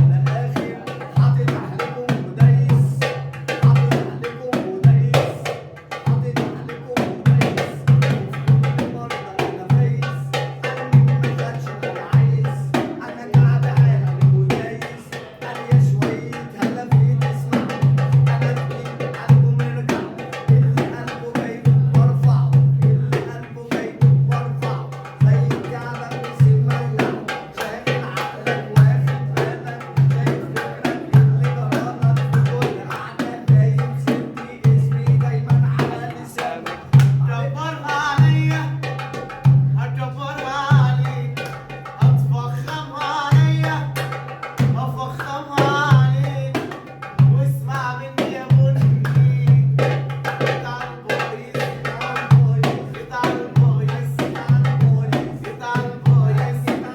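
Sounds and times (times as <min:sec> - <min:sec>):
fast hand-drum percussion: 0:00.0 - 0:56.9.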